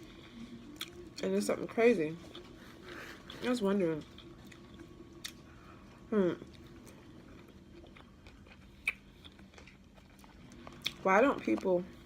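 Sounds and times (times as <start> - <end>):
person chewing: 0.0 - 1.2, 2.2 - 12.0.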